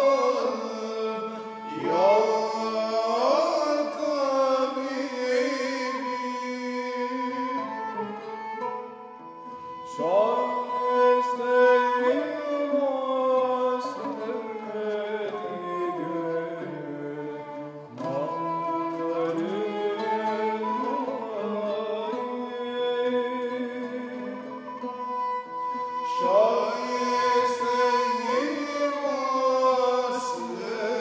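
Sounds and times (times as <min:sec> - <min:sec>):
lute and bowed fiddle music: 0:00.0 - 0:31.0
person singing ornamented melody: 0:00.0 - 0:31.0.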